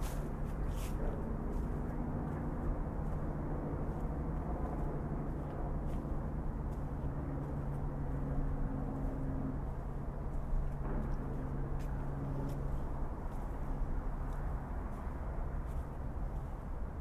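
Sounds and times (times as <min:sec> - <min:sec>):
distant vehicle engine drone: 0:00.0 - 0:17.0
faint footsteps on path: 0:00.0 - 0:17.0.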